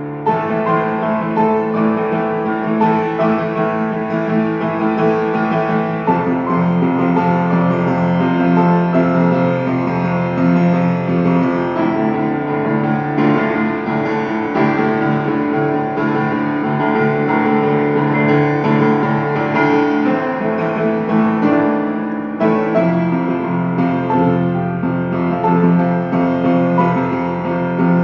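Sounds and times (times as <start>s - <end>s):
piano piece: 0.0s - 28.0s.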